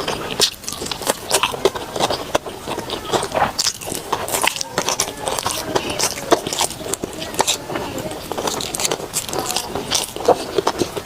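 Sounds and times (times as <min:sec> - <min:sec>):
person chewing sticky rice: 0:00.0 - 0:11.0.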